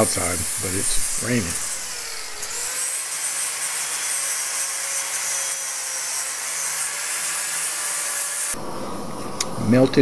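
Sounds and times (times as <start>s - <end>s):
power grinder grinding: 0.0s - 8.6s.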